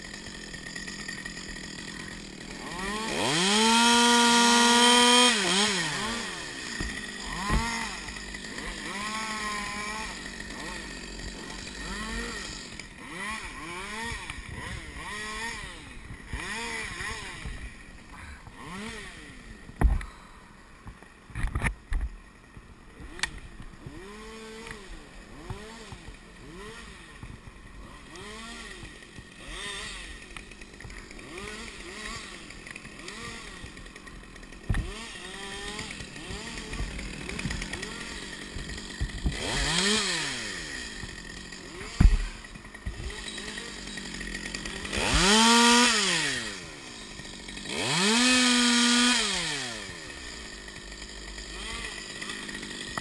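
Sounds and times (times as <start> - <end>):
chainsaw engine revving: 0.0 - 22.0, 22.8 - 53.0.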